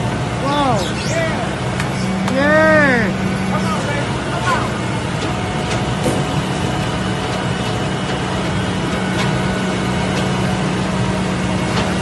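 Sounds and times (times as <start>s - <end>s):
heavy vehicle engine droning: 0.0s - 12.0s.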